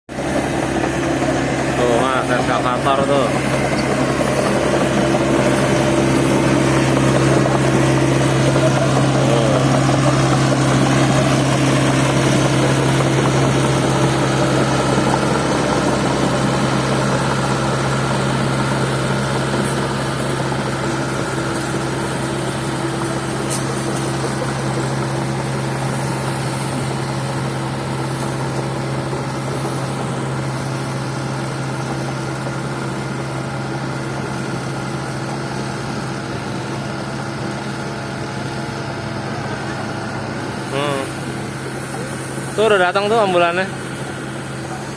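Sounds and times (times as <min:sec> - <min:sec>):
excavator diesel engine running: 0:00.1 - 0:44.9.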